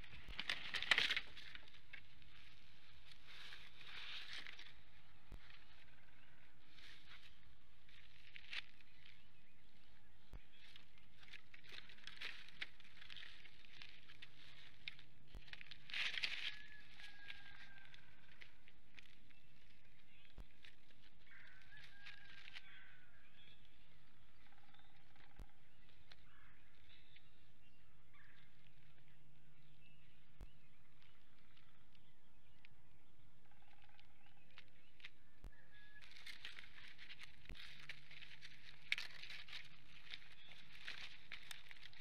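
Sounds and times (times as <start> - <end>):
sticks rustling and crackling: 0.0 - 27.3, 30.5 - 42.0
faint bird calls: 0.0 - 42.0.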